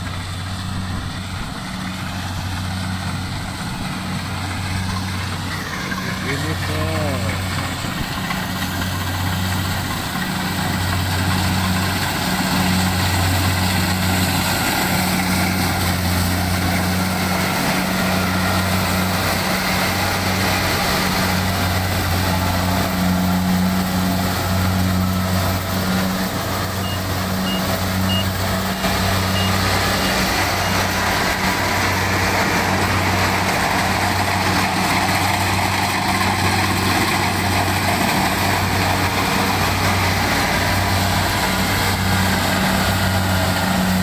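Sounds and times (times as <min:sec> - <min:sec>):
harvester engine drone: 0:00.0 - 0:44.0
harvester header working: 0:00.0 - 0:44.0.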